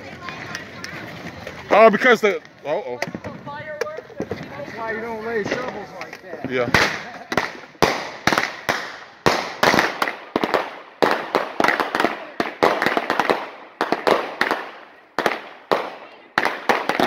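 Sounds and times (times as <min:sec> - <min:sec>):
fireworks bangs: 0:03.0 - 0:17.0.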